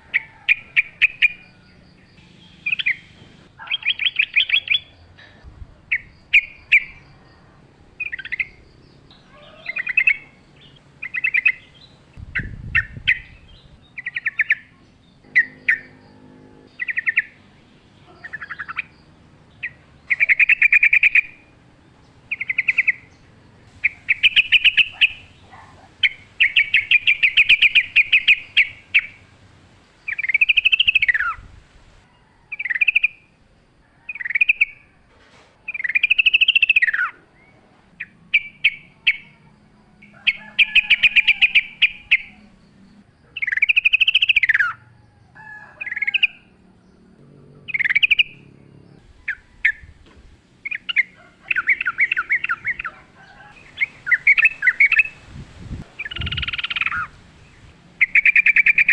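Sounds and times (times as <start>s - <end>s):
bird singing: 0.0s - 33.4s, 35.7s - 58.9s.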